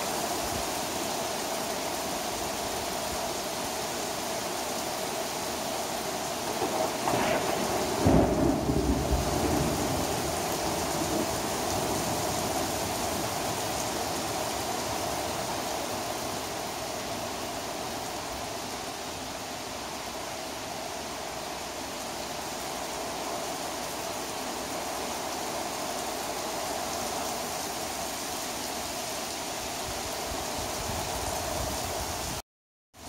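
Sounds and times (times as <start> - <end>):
heavy rain pouring: 0.0 - 32.4.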